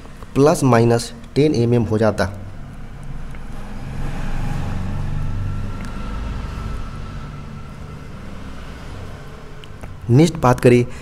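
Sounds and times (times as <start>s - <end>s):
vehicle rumbling past: 0.0s - 11.0s.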